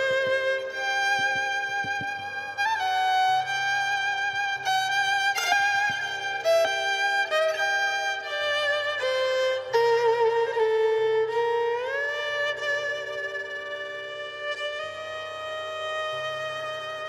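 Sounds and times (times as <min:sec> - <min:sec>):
violin bowed slow melody: 0:00.0 - 0:17.0.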